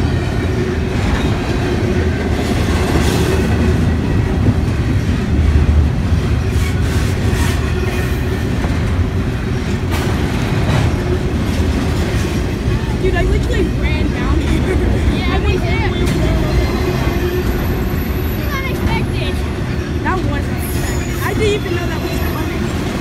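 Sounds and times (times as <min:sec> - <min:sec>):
freight train rumbling on rails: 0:00.0 - 0:23.0
wheels clacking over rail joints: 0:00.0 - 0:23.0.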